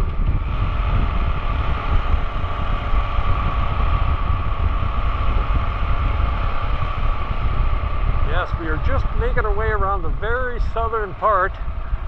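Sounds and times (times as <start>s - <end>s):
motorcycle engine hum: 0.0s - 12.0s
wind rumble on microphone: 0.0s - 12.0s.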